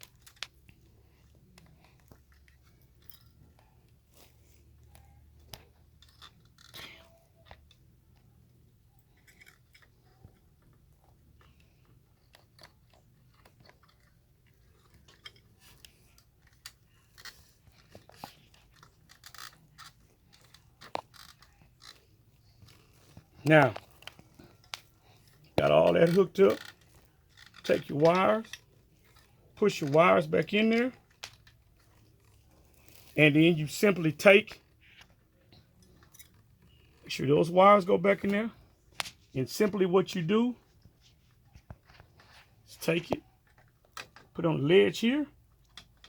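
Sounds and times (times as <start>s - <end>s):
wires clicking and crunching: 0.0s - 46.0s.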